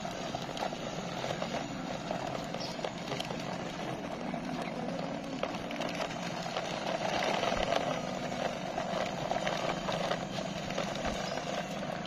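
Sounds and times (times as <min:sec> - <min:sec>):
low hum: 0:00.0 - 0:12.0
toy truck rattling on paving: 0:00.0 - 0:12.0.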